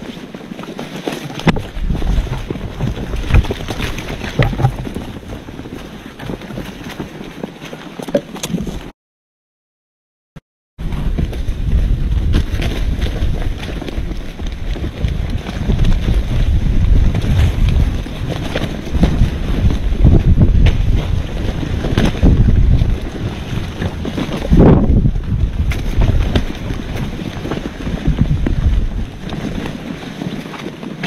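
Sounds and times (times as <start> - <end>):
wind buffeting microphone: 1.4 - 7.3, 10.8 - 31.0.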